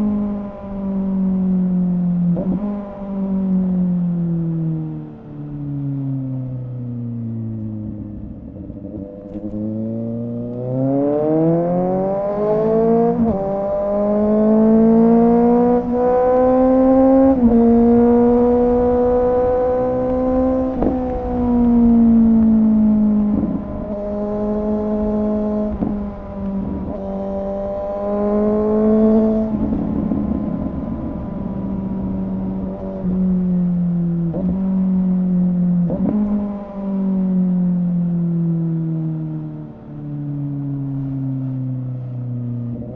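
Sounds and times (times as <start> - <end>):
motorcycle accelerating and shifting: 0.0 - 42.9.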